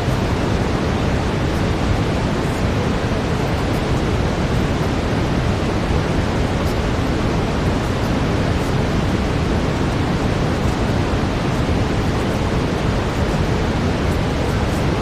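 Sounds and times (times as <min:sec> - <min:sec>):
brown noise hiss: 0:00.0 - 0:15.0.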